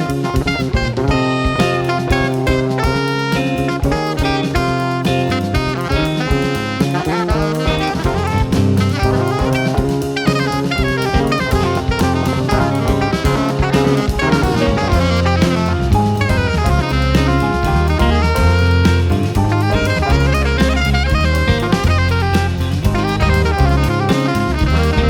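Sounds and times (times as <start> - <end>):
jazz band playing: 0.0 - 25.0.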